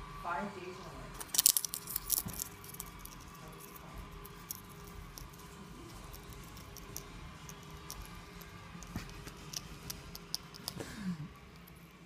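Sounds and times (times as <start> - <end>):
faint steady hum: 0.0 - 12.0
parrot crunching popcorn: 1.1 - 12.0.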